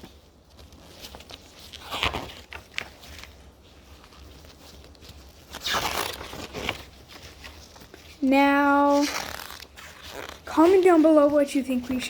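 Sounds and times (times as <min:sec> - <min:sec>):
items rustling: 0:00.0 - 0:12.0.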